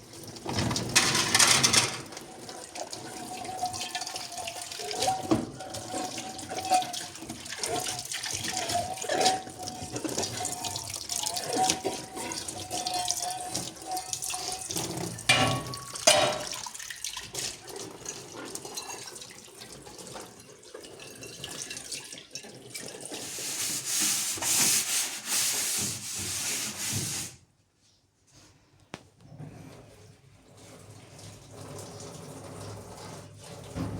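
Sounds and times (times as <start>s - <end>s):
running water: 0.1s - 27.3s.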